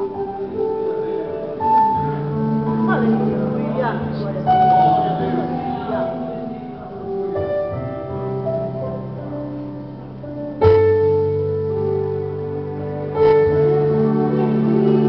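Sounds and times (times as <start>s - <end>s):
keyboard piano chords: 0.0s - 15.0s.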